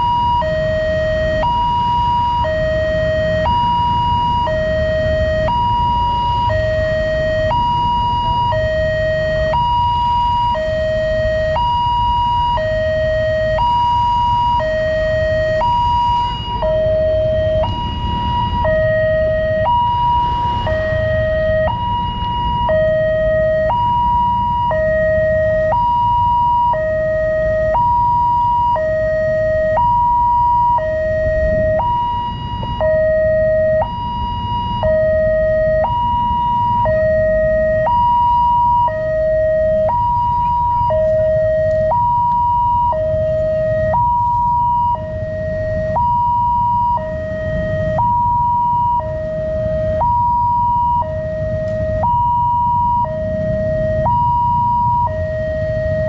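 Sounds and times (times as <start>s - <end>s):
level crossing two-tone alarm: 0.0s - 56.0s
road traffic rumble: 0.0s - 56.0s.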